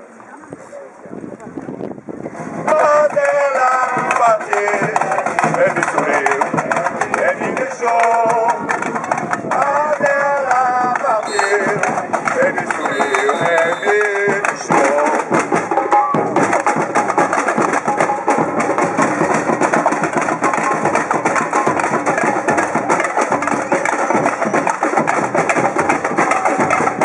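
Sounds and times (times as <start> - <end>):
samba drum ensemble: 2.3 - 27.0.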